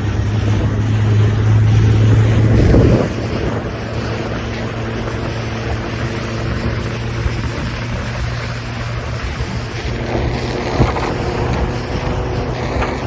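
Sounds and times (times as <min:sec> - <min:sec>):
hull thump: 0:00.0 - 0:13.0
motorboat engine running: 0:00.0 - 0:13.0
water rushing past hull: 0:00.0 - 0:13.0
wind buffeting microphone: 0:00.0 - 0:13.0.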